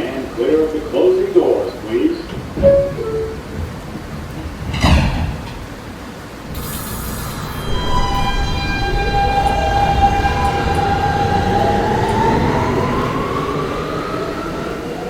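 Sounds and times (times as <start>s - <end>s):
train traction motors whining: 0.0s - 15.0s
train wheels rumbling on rails: 0.0s - 15.0s.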